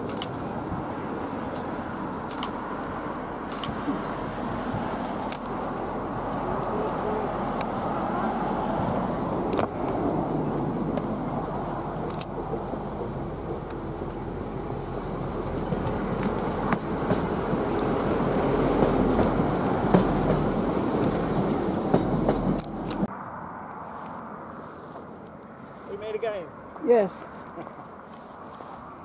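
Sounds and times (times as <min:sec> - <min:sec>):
diesel railcar engine and wheels: 0:00.0 - 0:29.0.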